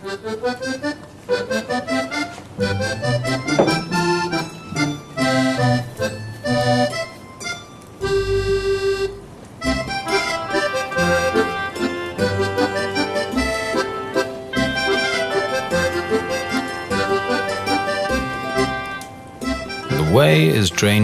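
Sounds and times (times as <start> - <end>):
accordion folk tune: 0.0 - 21.0.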